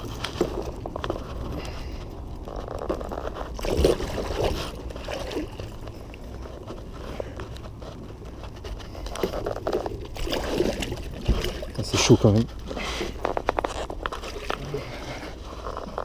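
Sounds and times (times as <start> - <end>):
scraping and rustling: 0.0 - 16.0
water sloshing: 0.0 - 16.0.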